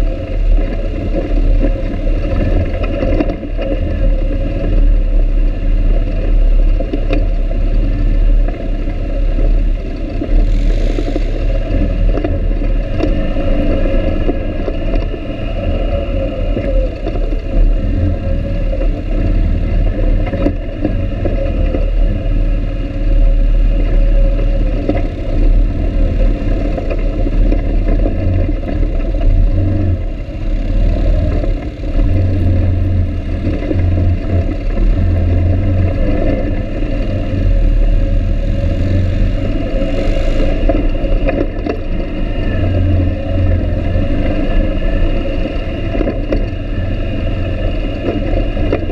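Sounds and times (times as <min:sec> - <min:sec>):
quad engine running: 0:00.0 - 0:48.9.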